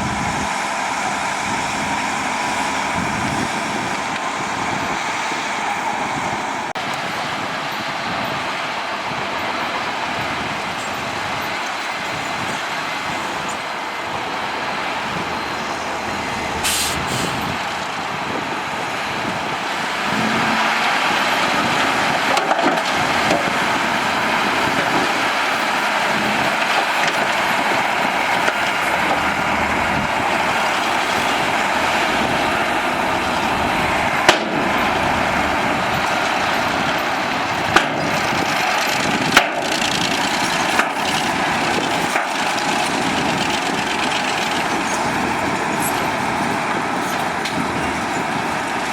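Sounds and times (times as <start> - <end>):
diesel machinery engine: 0.0 - 48.9.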